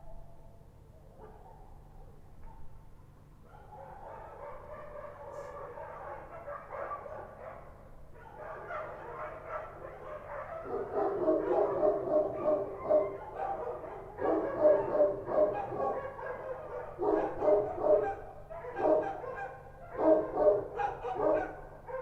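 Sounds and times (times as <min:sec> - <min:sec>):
dogs barking: 0:01.2 - 0:02.8, 0:03.4 - 0:22.0.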